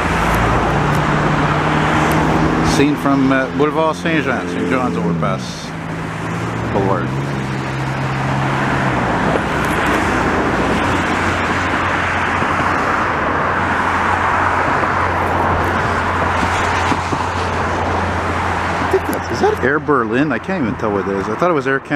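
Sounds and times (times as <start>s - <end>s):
low engine drone: 0.0s - 21.4s
roar of passing vehicles: 0.0s - 21.9s.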